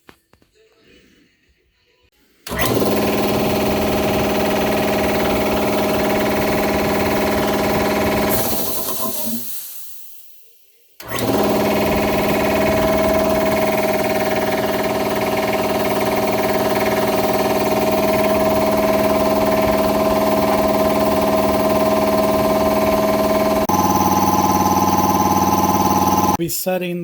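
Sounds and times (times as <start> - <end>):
air compressor running: 2.4 - 10.0, 11.0 - 26.4.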